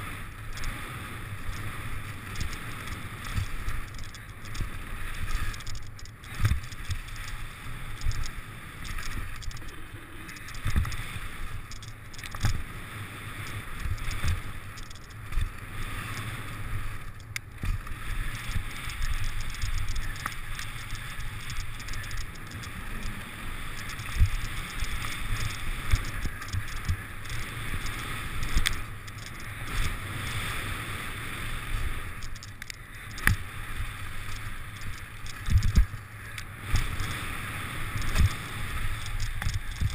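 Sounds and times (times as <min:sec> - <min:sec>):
bike tyres and air rushing: 0:00.0 - 0:39.9.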